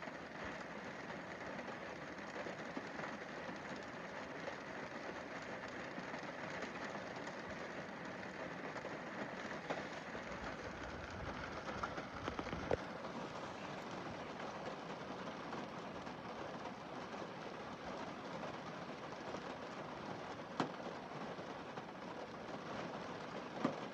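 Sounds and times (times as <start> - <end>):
rain on a car windscreen: 0.0 - 23.9.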